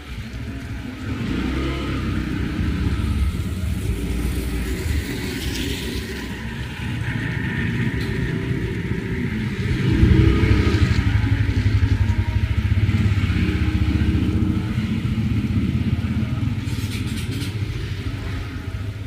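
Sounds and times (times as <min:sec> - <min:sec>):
motorcycle engine passing: 0:00.4 - 0:19.0.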